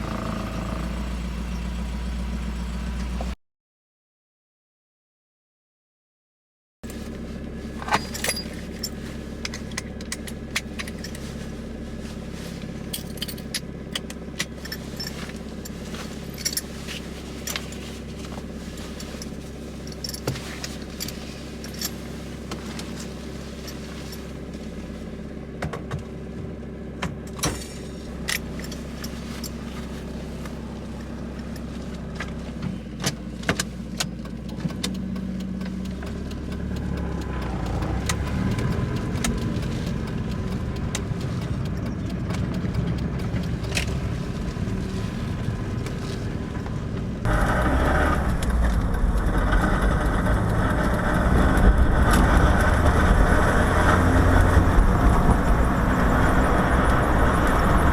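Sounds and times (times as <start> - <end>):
car engine idling: 0.0 - 3.4, 6.9 - 57.9.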